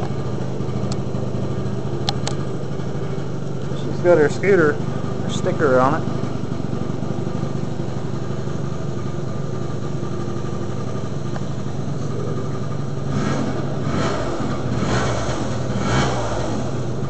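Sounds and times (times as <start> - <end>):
scooter engine idling and revving: 0.0 - 17.0.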